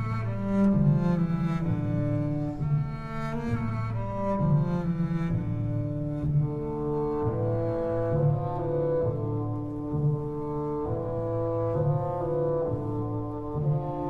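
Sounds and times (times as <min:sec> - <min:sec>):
slow orchestral brass music: 0:00.0 - 0:14.0.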